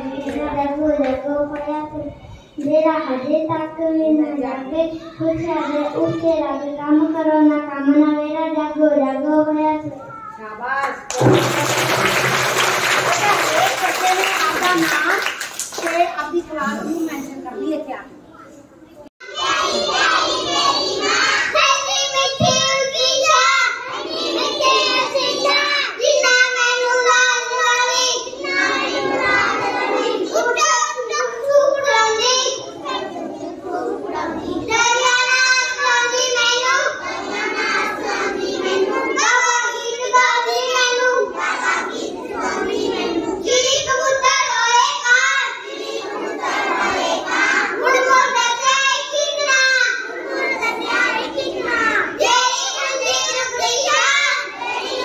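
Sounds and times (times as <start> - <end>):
boy reciting: 0.0 - 10.4, 18.3 - 55.0.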